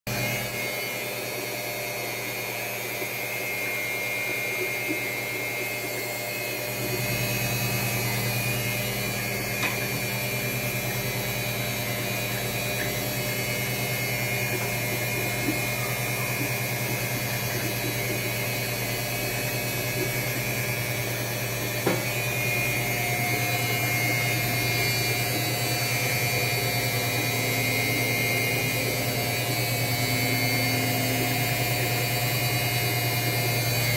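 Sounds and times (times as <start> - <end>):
washing machine motor hum: 0.1 - 33.9.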